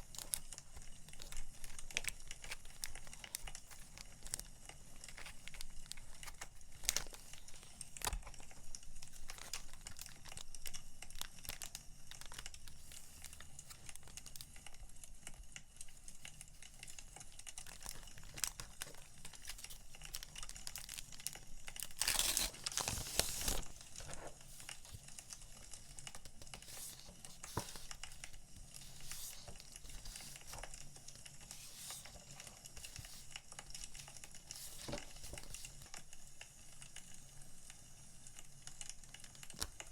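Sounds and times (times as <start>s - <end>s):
packaging crinkling: 0.0s - 36.2s, 38.7s - 39.9s
firewood crackling: 0.0s - 37.1s.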